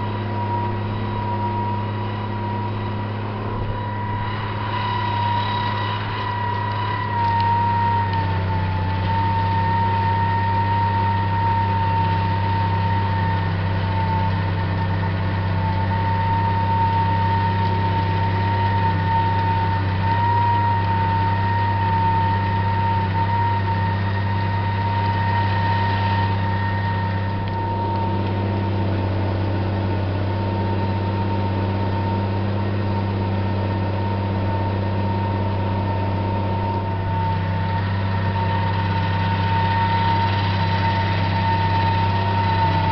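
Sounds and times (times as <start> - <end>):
high whine: 0.0 - 42.9
tractor diesel engine running: 0.0 - 42.9.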